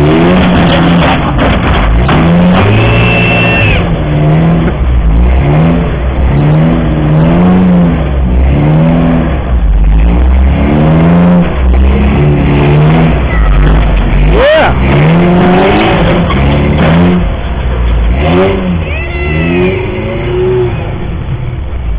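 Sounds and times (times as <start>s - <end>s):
truck engine revving hard: 0.0s - 21.8s.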